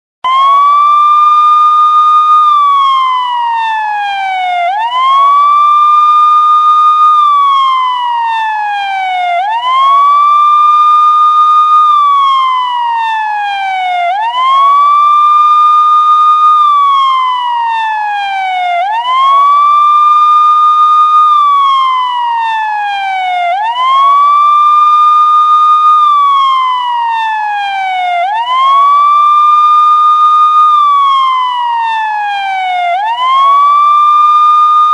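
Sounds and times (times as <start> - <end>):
police siren wailing: 0.2 - 34.9.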